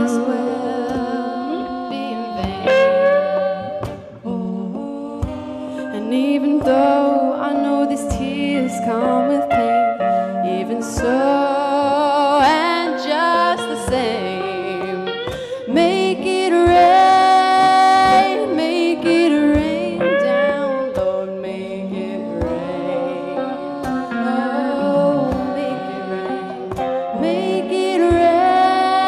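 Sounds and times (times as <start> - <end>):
acoustic and electric guitar: 0.0 - 29.0
woman singing: 0.0 - 29.0.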